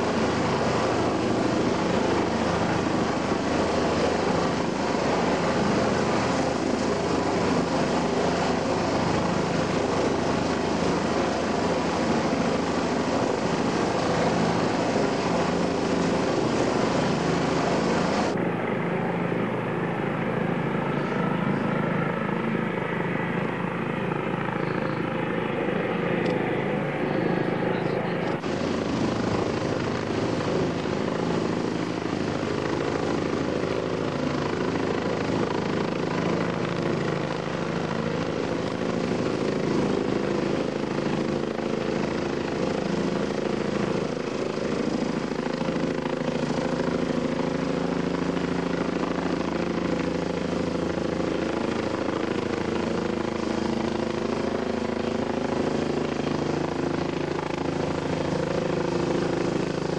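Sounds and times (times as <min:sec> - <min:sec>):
helicopter rotor and engine noise: 0:00.0 - 0:59.9.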